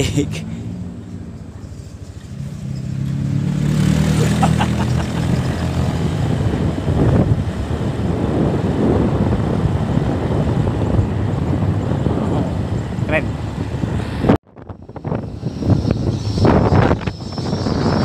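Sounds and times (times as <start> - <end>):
motorcycle engine: 0.0 - 18.0
wind and road noise: 0.0 - 18.0.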